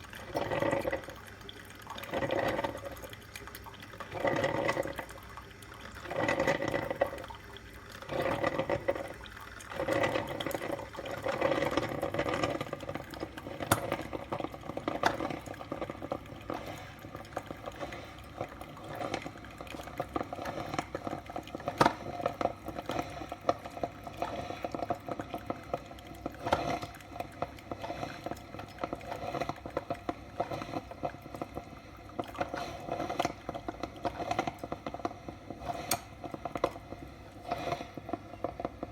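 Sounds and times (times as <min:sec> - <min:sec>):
coffee maker gurgling: 0:00.0 - 0:38.9.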